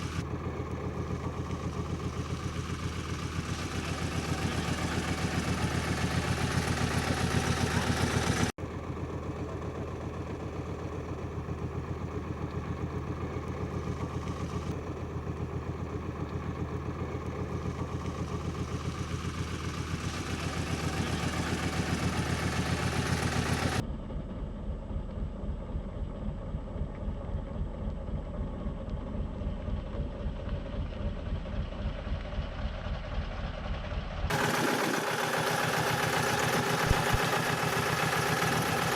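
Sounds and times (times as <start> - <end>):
road roller engine idling: 0.0 - 23.8, 29.0 - 38.9.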